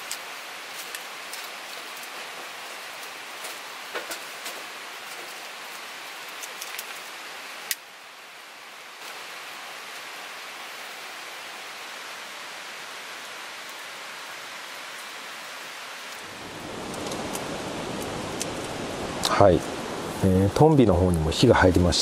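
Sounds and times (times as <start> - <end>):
gentle rain falling: 0.0 - 22.0.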